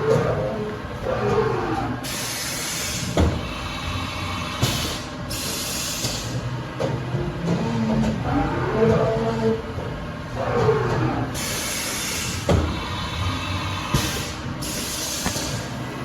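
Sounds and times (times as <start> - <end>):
machine motors whining: 0.0 - 16.0.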